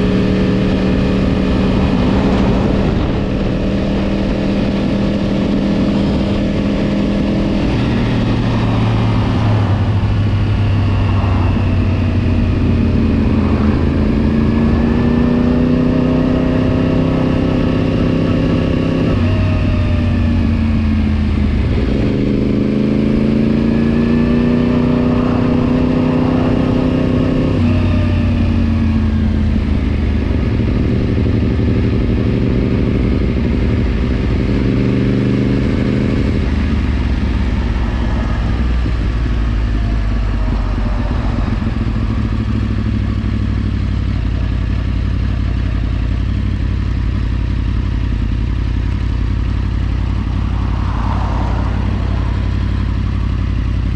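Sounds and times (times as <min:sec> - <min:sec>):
motorcycle engine revving through gears: 0:00.0 - 0:53.9.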